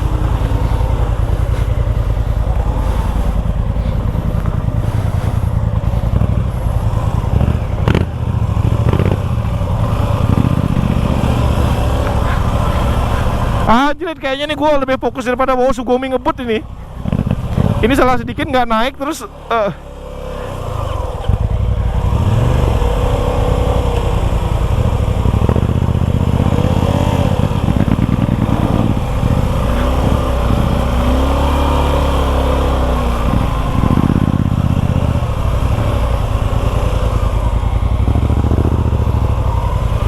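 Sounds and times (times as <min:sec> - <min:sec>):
motorcycle engine revving under load: 0:00.0 - 0:13.7, 0:16.4 - 0:40.0.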